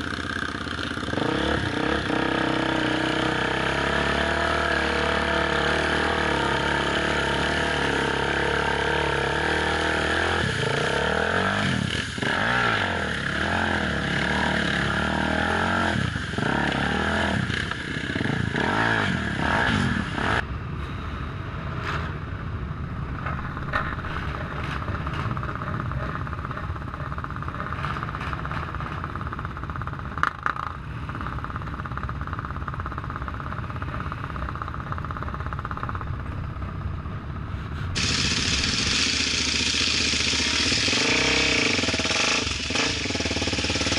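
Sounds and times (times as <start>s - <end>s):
motorcycle engines revving: 0.0s - 20.6s, 23.1s - 43.9s.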